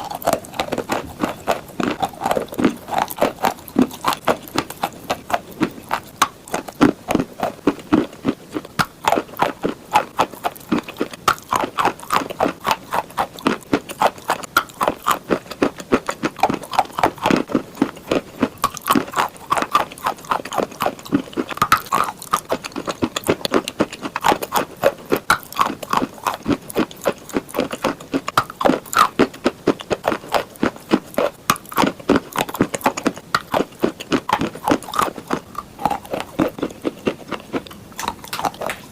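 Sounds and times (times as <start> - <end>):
person chewing chalk: 0.0 - 38.9.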